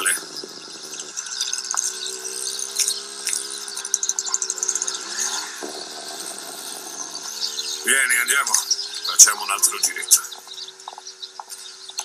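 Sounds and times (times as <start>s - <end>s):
small motor whining drone: 0.0s - 12.0s.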